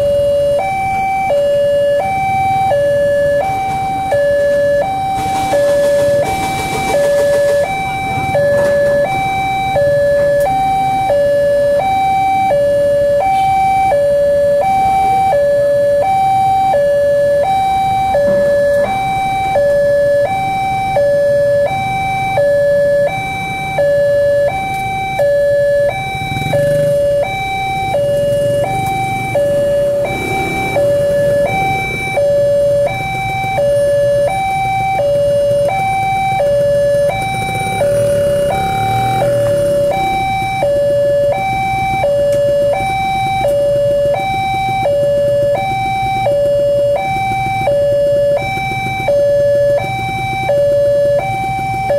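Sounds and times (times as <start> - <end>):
electronic two-tone warning signal: 0.0 - 51.9.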